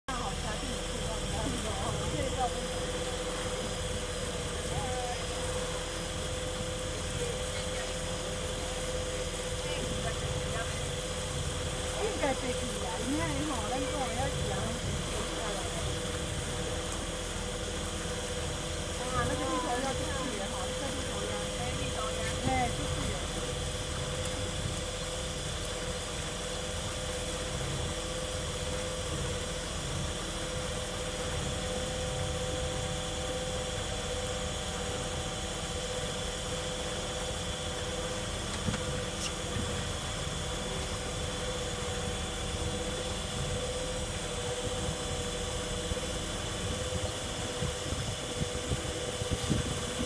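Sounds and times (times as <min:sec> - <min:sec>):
boat motor running: 0:00.0 - 0:50.0.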